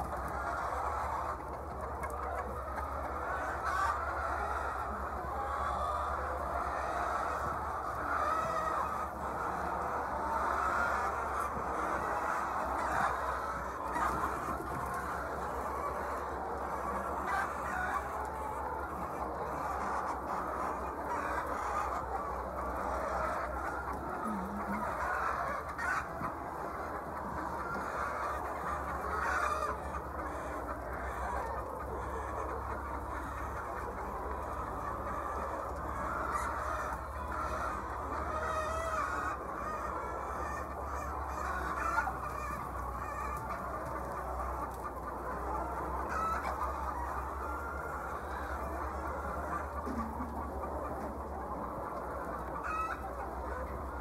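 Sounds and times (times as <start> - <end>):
hens clucking: 0.0 - 54.0.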